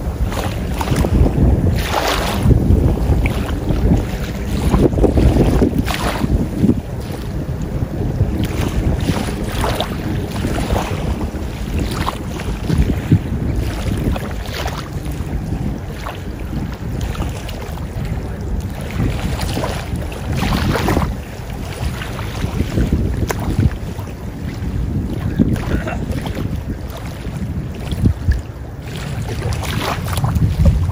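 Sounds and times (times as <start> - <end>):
small waves lapping: 0.0 - 30.9
wind buffeting microphone: 0.0 - 30.9.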